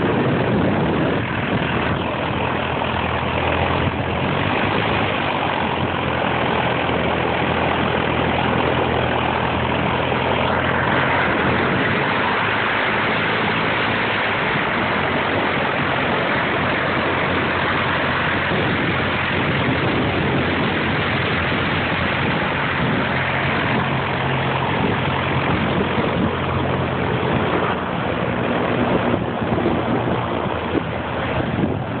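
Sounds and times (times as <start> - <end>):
light plane engine droning: 0.0 - 32.0.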